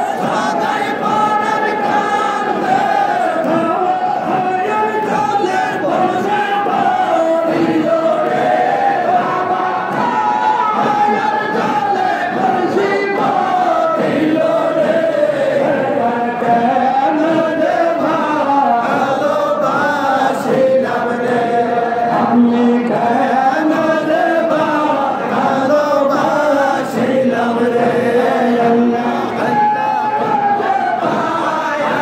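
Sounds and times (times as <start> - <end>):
men chanting in chorus: 0.0 - 32.0.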